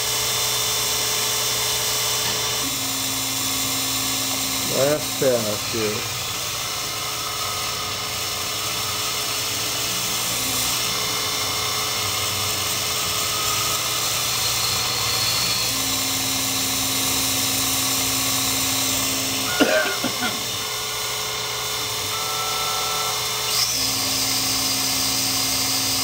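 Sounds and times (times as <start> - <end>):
grinder motor hum and hiss: 0.0 - 26.0.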